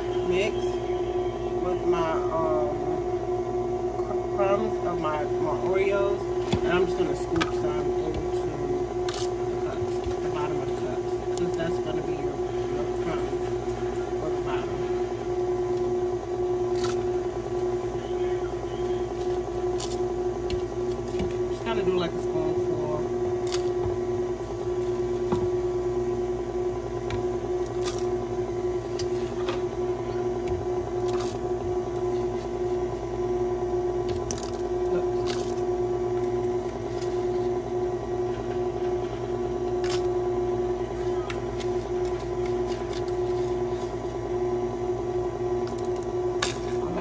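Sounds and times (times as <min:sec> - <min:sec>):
motor hum: 0:00.0 - 0:47.0.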